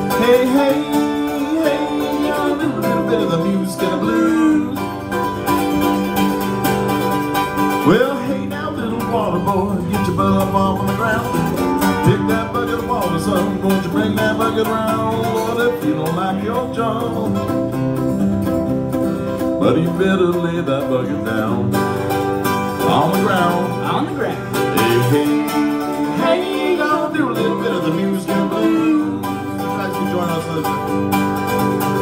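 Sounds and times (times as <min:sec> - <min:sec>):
acoustic guitar: 0:00.0 - 0:32.0
mandolin: 0:00.0 - 0:32.0.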